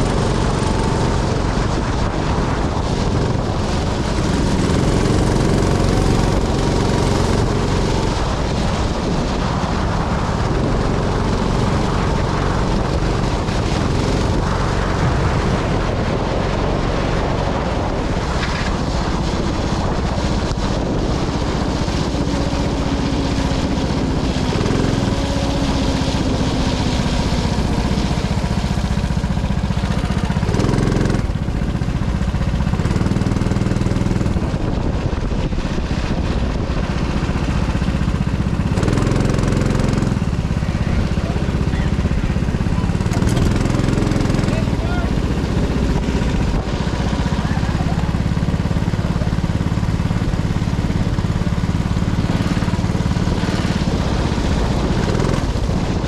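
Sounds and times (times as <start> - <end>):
go-kart engine accelerating: 0.0 - 56.0.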